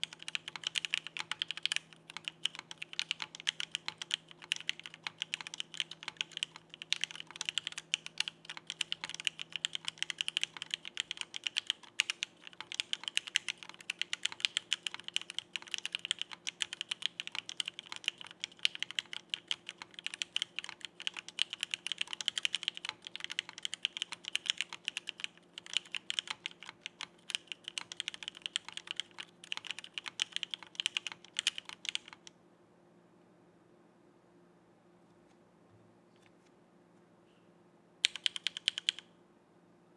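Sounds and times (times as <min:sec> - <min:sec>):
mechanical keyboard typing: 0:00.0 - 0:32.3, 0:38.0 - 0:39.0.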